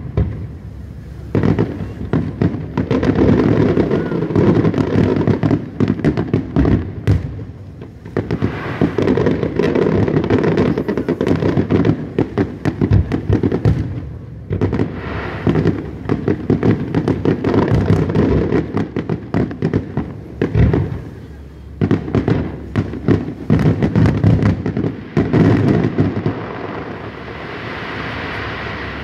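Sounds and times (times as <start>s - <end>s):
fireworks bursting with bangs: 0.0s - 29.0s.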